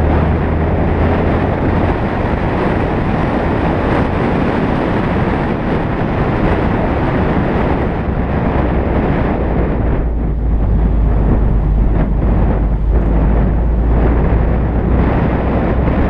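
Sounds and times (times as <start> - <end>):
road rumble from moving car: 0.0 - 16.0
wind rushing over microphone: 0.0 - 16.0.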